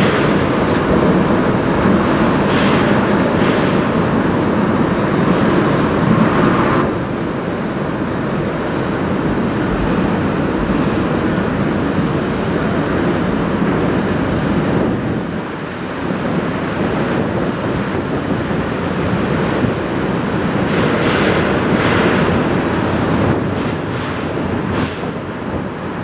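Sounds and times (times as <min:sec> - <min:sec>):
ship hull rushing through water: 0:00.0 - 0:26.0.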